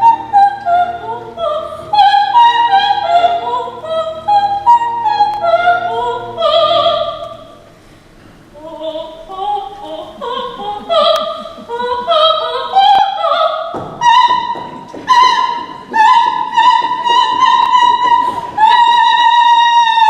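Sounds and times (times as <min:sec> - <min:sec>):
operetta singing with accompaniment: 0:00.0 - 0:07.8, 0:08.4 - 0:20.0.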